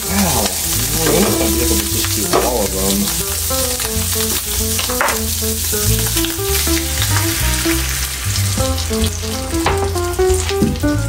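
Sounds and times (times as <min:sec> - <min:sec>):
background music with bass: 0:00.0 - 0:11.0
meat sizzling in a skillet: 0:00.0 - 0:11.0
eggs poured into pan: 0:00.2 - 0:10.4.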